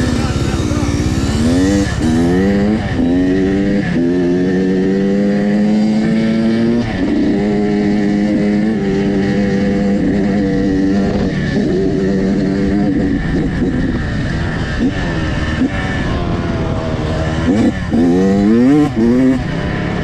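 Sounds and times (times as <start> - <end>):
dirt bike engine accelerating: 0.0 - 20.0.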